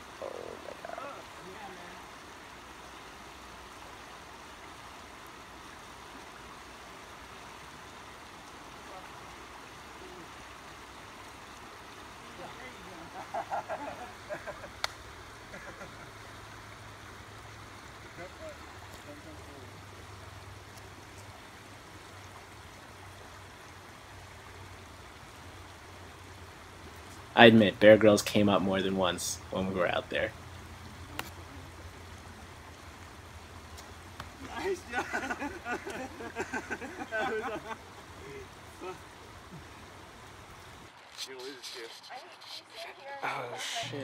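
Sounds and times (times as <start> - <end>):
stream flowing over stones: 0.0 - 44.0.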